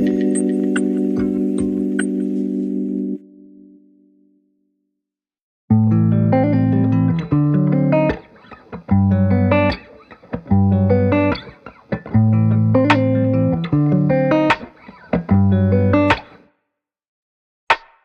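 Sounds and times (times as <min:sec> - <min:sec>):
plucked guitar-like melody: 0:00.0 - 0:04.3, 0:05.7 - 0:16.4.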